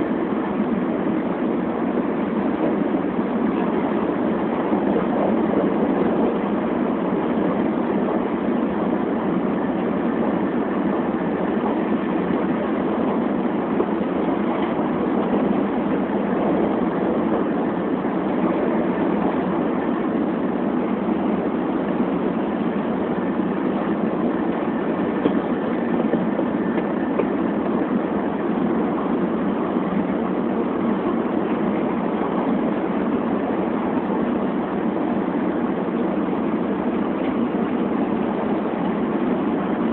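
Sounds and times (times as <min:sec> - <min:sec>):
train running inside passenger car: 0:00.0 - 0:39.9.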